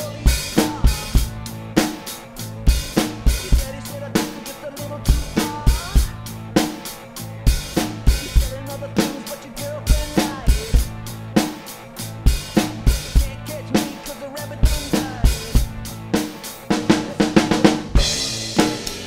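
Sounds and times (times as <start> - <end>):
backing track with bass and guitar: 0.0 - 19.0
rock drum kit playing: 0.0 - 19.0.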